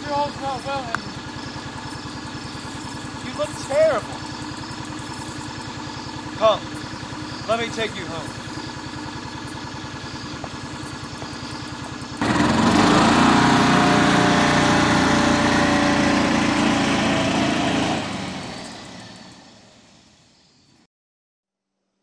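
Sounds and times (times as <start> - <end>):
vehicle engine idling and pulling away: 0.0 - 20.9.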